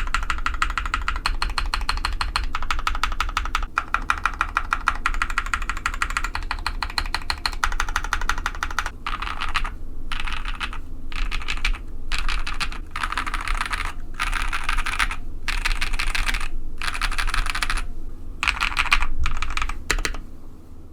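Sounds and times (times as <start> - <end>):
mechanical keyboard typing: 0.0 - 20.2.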